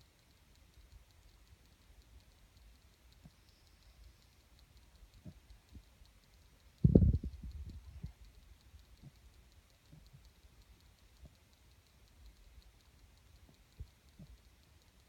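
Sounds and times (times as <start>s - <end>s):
faint even ticking: 0.0s - 15.0s.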